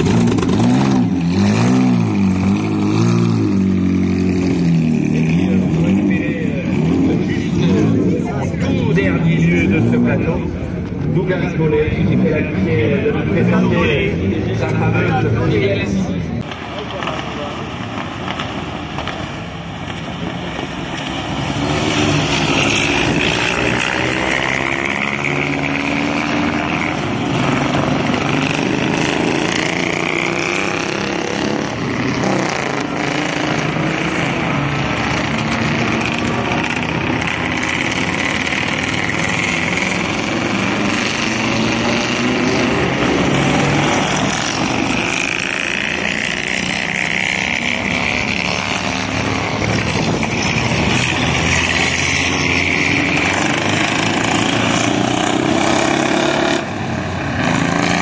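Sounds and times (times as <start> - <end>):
vintage engines revving: 0.0 - 58.0.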